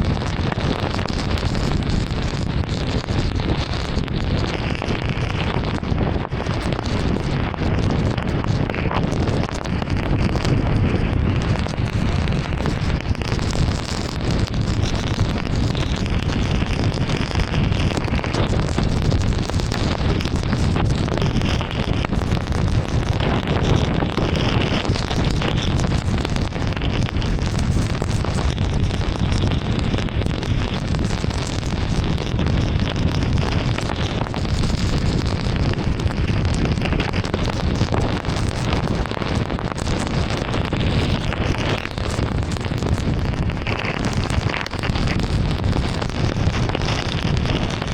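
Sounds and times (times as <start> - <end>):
heavy rain on moving car: 0.0 - 47.9
tyre and wind noise: 0.0 - 47.9.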